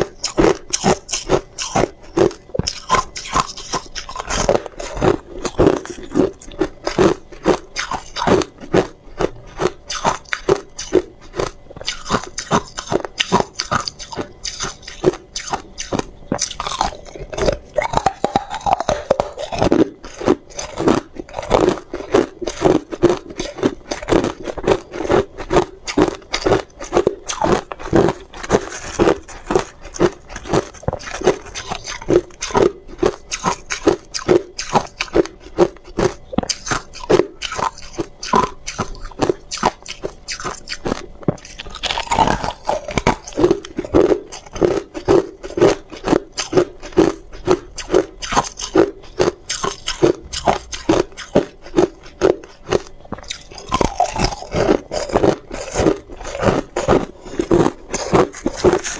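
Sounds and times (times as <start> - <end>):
ice cubes crunching: 0.0 - 58.9.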